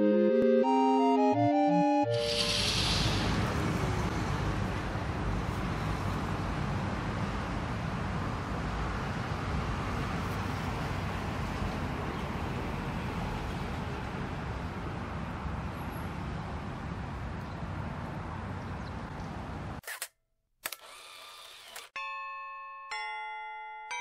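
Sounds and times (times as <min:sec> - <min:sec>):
road traffic noise: 0:00.0 - 0:19.8.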